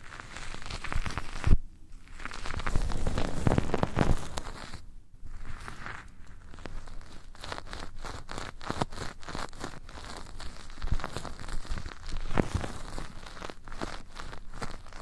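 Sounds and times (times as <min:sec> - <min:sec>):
rubbing and scratching on microphone: 0:00.0 - 0:15.0.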